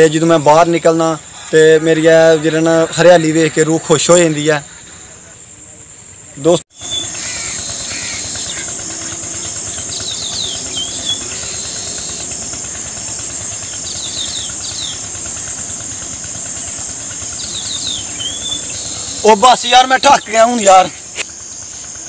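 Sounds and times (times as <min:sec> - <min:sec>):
crickets chirping: 0:00.0 - 0:22.0
steady hiss: 0:00.0 - 0:22.0.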